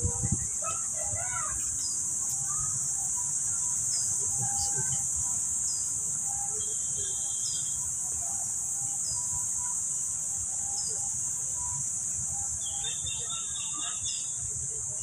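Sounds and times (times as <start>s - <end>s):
faint voices: 0.0s - 15.0s
insects droning: 0.0s - 15.0s.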